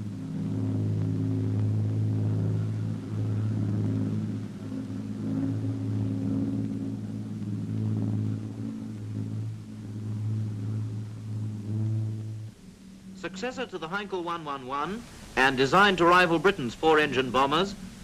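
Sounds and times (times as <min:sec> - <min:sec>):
piston aircraft engines droning: 0:00.0 - 0:18.0.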